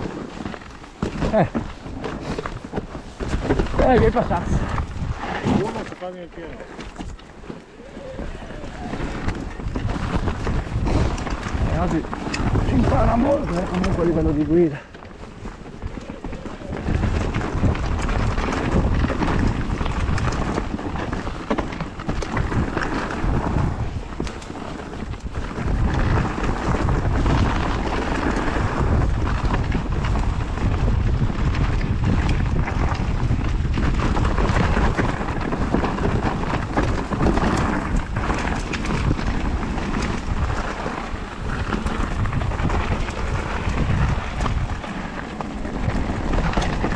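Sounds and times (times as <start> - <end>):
bike knocks and rattles: 0.0 - 46.9
bike tyres rumbling: 0.0 - 46.9
wind buffeting microphone: 0.0 - 46.9.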